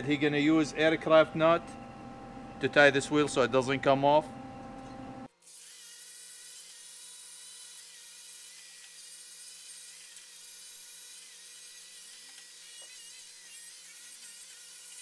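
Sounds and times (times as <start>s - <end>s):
angle grinder grinding metal: 2.6s - 15.0s.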